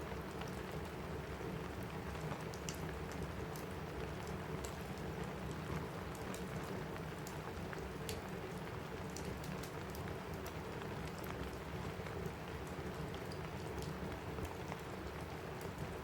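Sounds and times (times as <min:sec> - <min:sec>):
fireplace crackling: 0:00.0 - 0:16.0
rain on a roof: 0:00.0 - 0:16.0.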